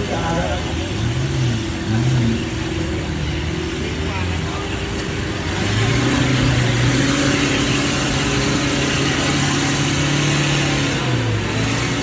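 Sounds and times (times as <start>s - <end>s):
engine at high revs: 0.0s - 12.0s
wheels splashing through mud: 0.0s - 12.0s.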